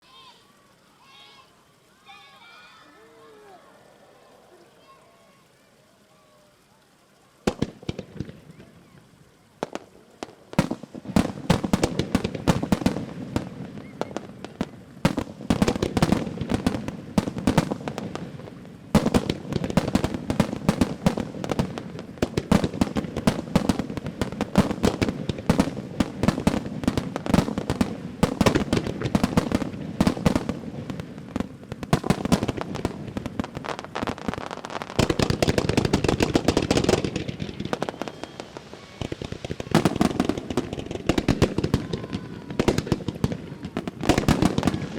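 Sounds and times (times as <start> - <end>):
fireworks bursting: 0.0 - 44.9
fireworks crackling: 0.0 - 44.9.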